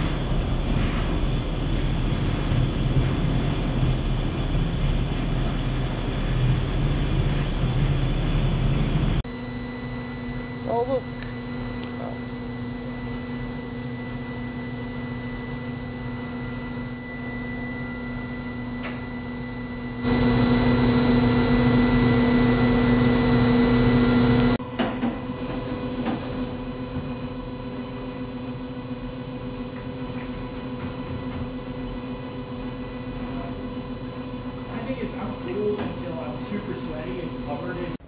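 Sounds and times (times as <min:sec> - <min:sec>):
agitator motor hum and whine: 0:00.0 - 0:38.0.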